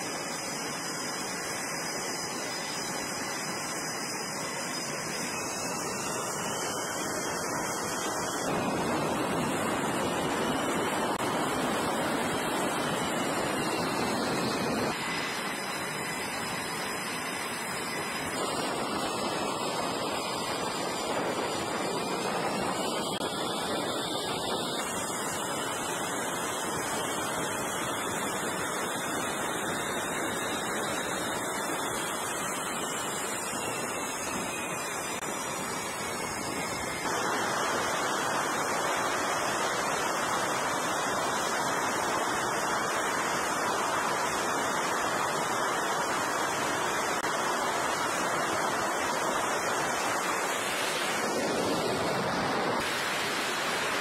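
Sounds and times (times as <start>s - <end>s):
jet engines running: 0.0s - 54.0s
turbine whine: 0.0s - 54.0s.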